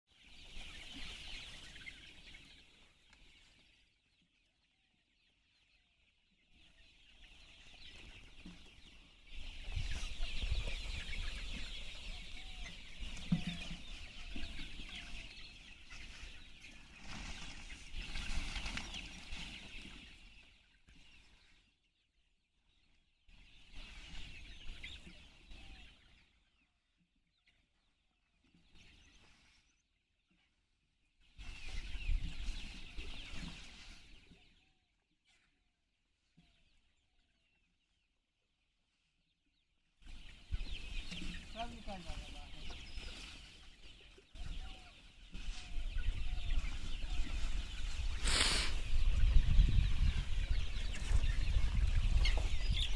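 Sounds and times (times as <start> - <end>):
chickens clucking: 0.1 - 52.9.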